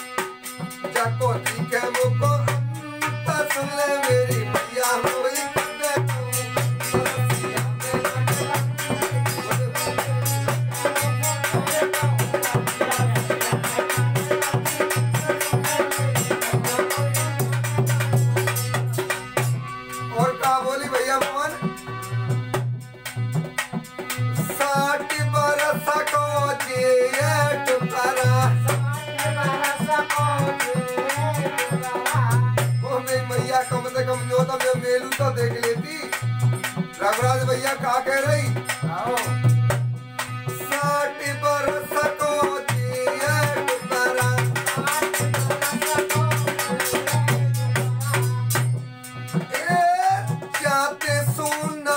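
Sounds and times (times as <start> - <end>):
harmonium holding chords: 0.0 - 51.9
quick steady drum beat: 0.3 - 40.0, 42.0 - 48.8.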